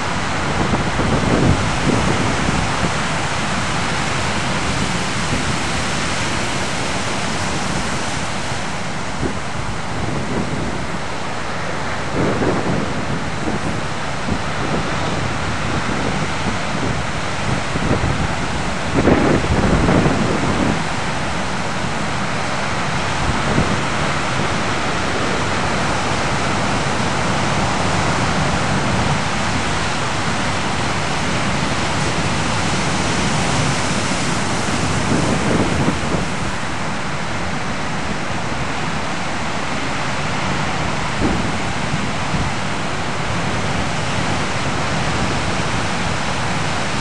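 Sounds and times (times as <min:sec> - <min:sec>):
ocean surf breaking on beach: 0:00.0 - 0:47.0.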